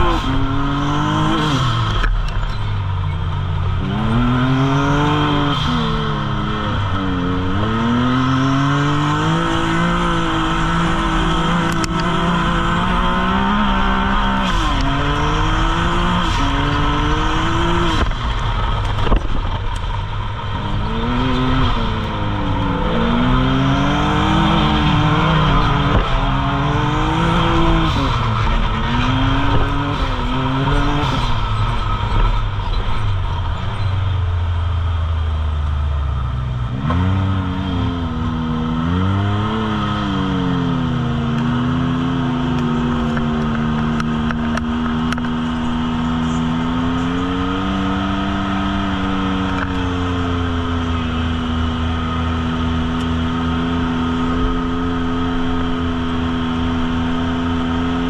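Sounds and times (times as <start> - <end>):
engine revving: 0.0 - 35.4, 36.0 - 58.0.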